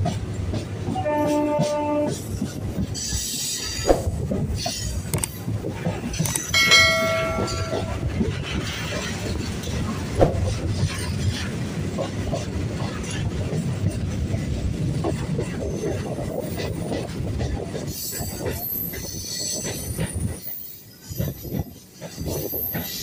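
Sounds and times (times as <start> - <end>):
train rumble: 0.0 - 23.0
wheels clacking over rail joints: 0.0 - 23.0.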